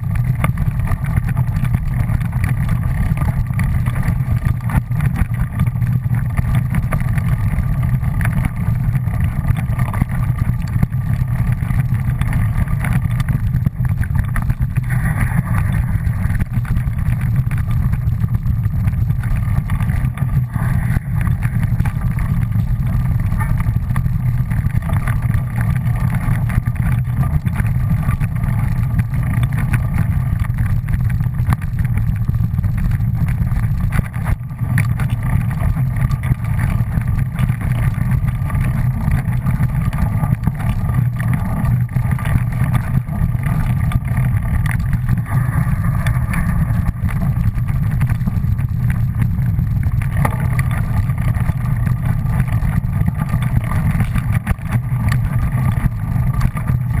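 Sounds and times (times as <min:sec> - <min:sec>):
low rumble of fast ride: 0:00.0 - 0:57.0.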